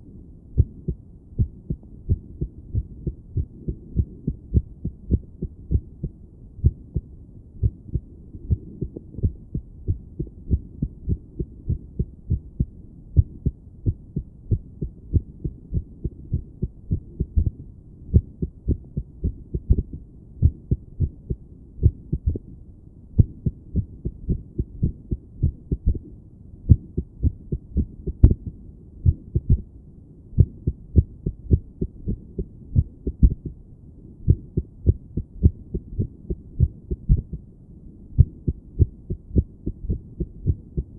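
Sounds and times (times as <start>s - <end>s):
heartbeat through stethoscope: 0.6s - 22.5s, 23.2s - 26.1s, 26.7s - 29.7s, 30.4s - 33.6s, 34.2s - 37.5s, 38.2s - 40.9s.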